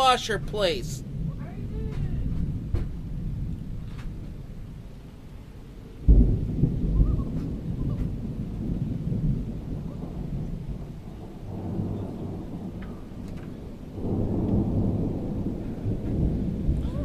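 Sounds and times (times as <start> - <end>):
rain falling: 0.0 - 17.0
thunder rumbling: 0.0 - 17.0.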